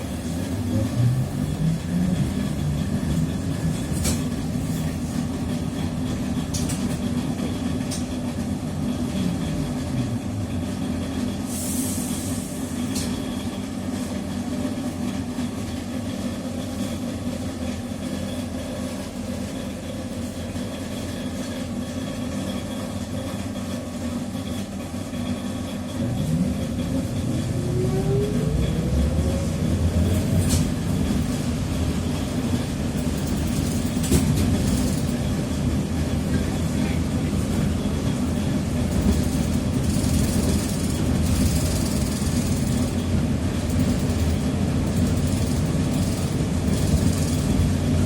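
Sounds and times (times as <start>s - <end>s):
trolleybus interior rumble: 0.0s - 48.0s.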